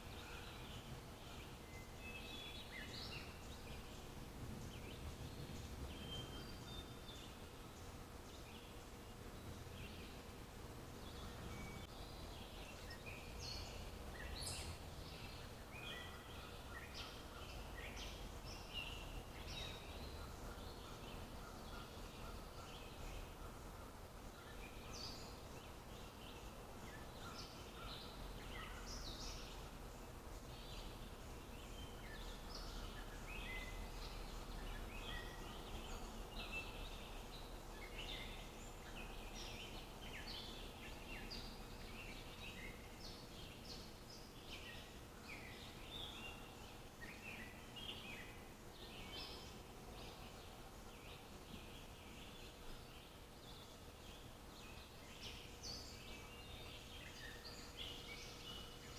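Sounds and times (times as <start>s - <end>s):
low outdoor background hum: 0.0s - 58.9s
songbirds chirping and trilling: 0.0s - 58.9s.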